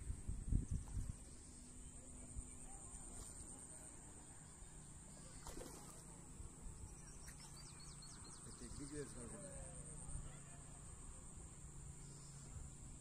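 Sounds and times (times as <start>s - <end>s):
high-pitched insect hum: 0.0s - 13.0s.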